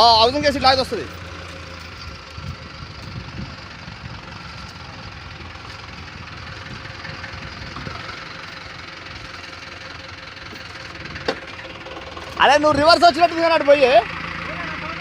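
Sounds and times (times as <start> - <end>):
heavy vehicle engine idling: 0.0 - 15.0.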